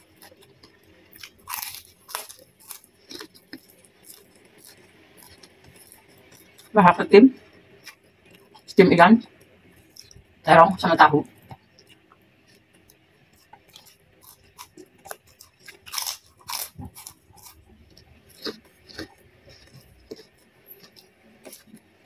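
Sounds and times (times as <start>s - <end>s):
person chewing crunchy food: 0.0s - 6.8s, 9.8s - 10.3s, 11.5s - 22.0s.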